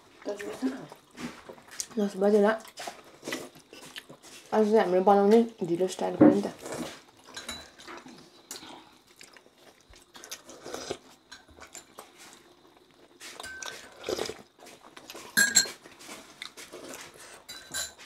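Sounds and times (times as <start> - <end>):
people chewing: 0.0 - 5.6, 6.6 - 18.0.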